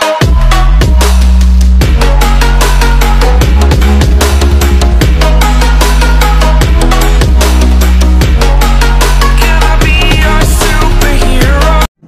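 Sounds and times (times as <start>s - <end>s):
electronic music with deep bass: 0.0s - 12.0s
steady drum beat: 0.2s - 11.9s.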